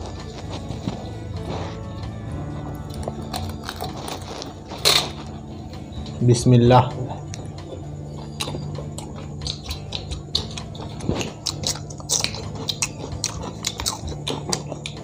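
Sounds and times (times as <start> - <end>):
chewing and crunching: 0.0 - 6.2, 7.1 - 15.0.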